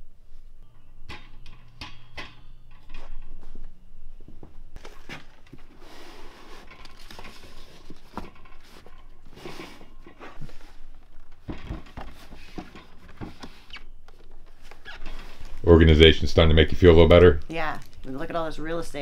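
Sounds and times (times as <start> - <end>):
rustling: 0.0 - 16.2.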